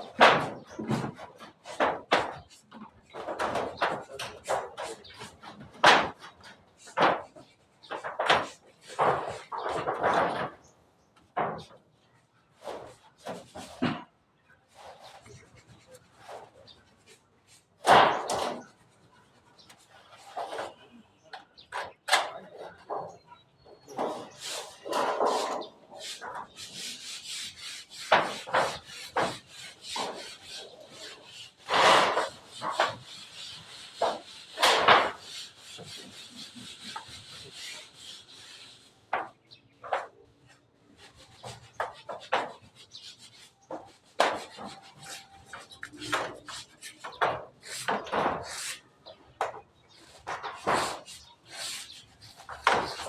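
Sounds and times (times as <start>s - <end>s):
rubbing strokes on timber: 0.0s - 10.6s, 11.3s - 21.0s, 21.7s - 53.0s.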